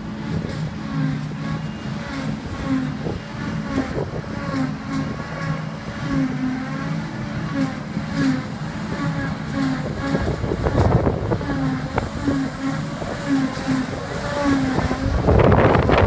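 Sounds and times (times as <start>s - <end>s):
forage harvester engine drone: 0.0s - 16.0s
truck engine: 0.0s - 16.0s.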